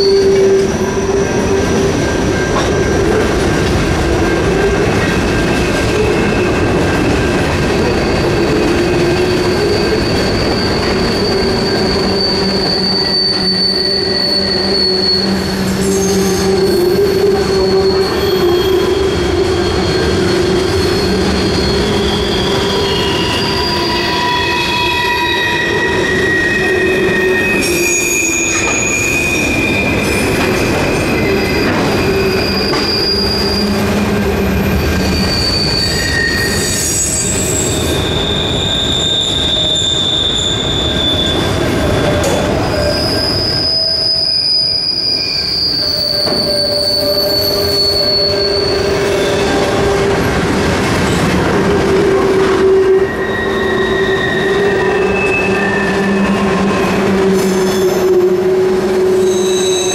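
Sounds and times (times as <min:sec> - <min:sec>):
freight train rumbling past: 0:00.0 - 0:59.9
wheel flange squeal: 0:04.2 - 0:50.2, 0:51.0 - 0:59.9.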